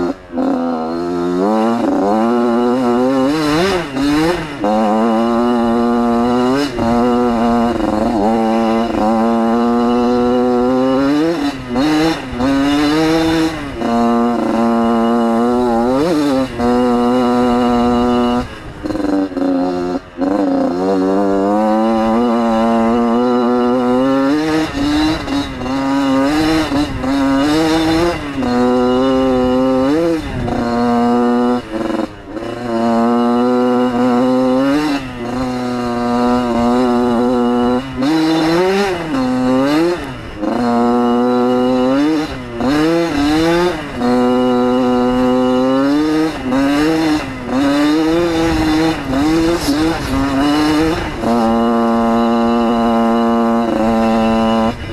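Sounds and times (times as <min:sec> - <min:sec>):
two-stroke engine running hard: 0:00.0 - 0:54.9.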